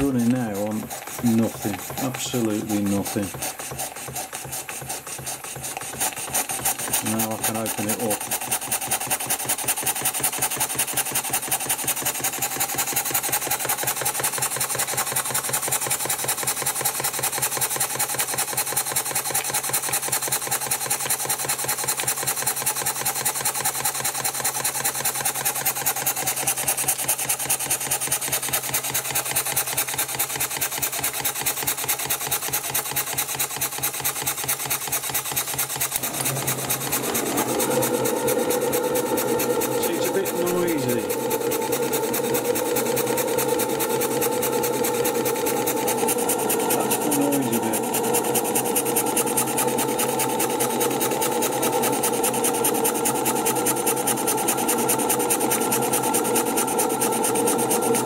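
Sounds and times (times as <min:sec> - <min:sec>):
steam engine chuffing: 0:00.0 - 0:58.0.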